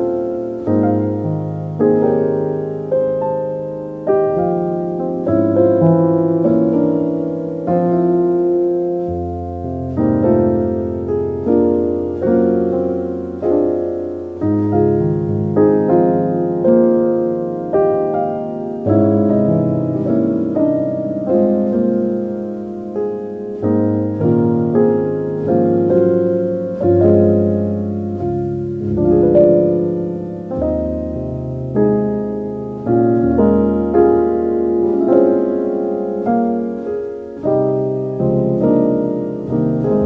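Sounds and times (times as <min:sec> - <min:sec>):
gentle solo piano: 0:00.0 - 0:40.0.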